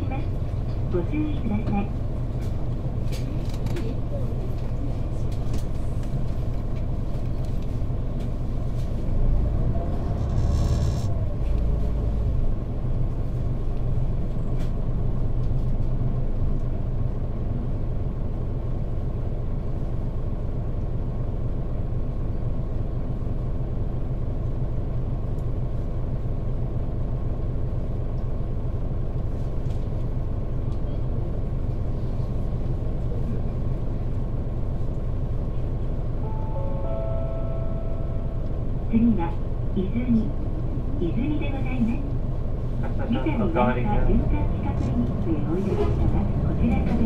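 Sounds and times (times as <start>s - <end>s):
diesel bus engine rumbling: 0.0s - 47.0s.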